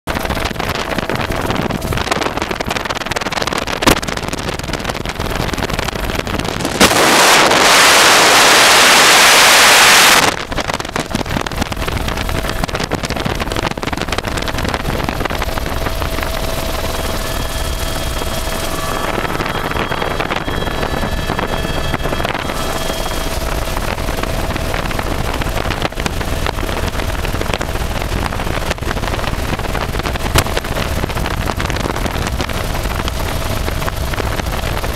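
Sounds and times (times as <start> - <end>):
helicopter engine and rotor: 0.1 - 34.9
wind on microphone: 0.1 - 34.9.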